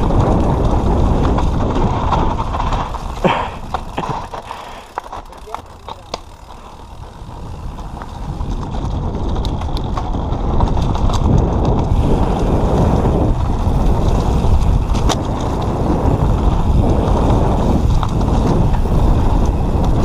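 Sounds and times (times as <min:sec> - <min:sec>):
wind on microphone: 0:00.0 - 0:05.0, 0:05.8 - 0:20.0
bike clicks and rattles: 0:00.0 - 0:20.0
tyre rumble on dirt: 0:00.0 - 0:20.0.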